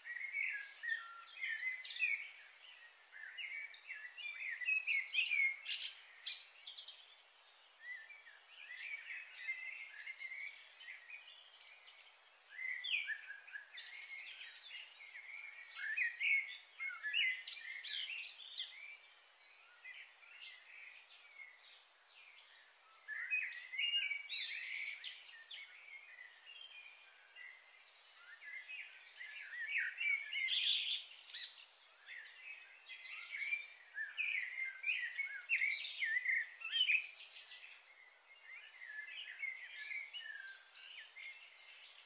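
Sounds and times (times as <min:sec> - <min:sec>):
birds chirping and singing: 0:00.0 - 0:42.0
faint outdoor hiss: 0:00.0 - 0:42.0.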